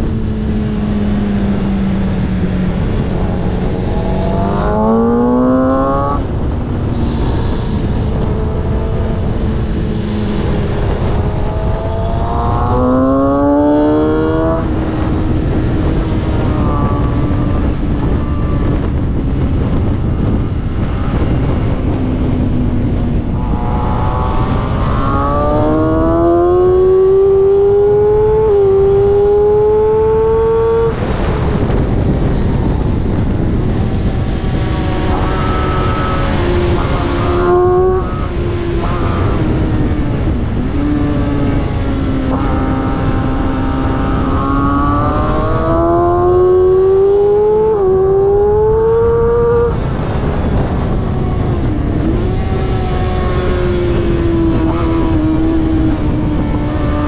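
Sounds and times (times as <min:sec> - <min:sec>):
motorcycle engine revving: 0:00.0 - 0:57.0
wind noise: 0:00.0 - 0:57.0.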